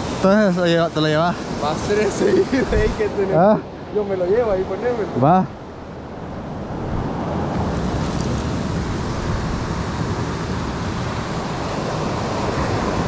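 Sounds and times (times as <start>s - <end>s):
waves breaking on cobble beach: 0.0s - 5.6s, 6.2s - 13.0s.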